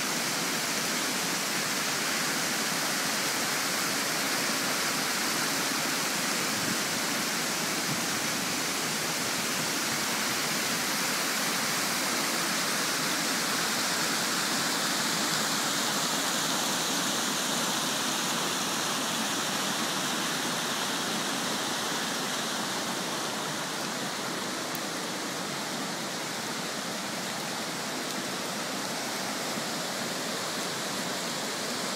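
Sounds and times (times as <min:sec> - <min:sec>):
stream rushing over rocks: 0:00.0 - 0:31.9.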